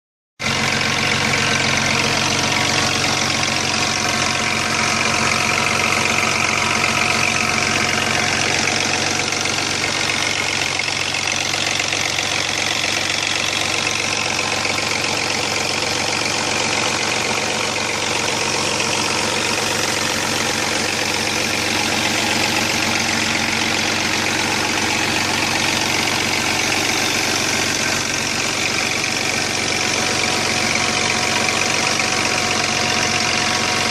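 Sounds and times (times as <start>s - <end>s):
car engine running: 0.4s - 33.9s.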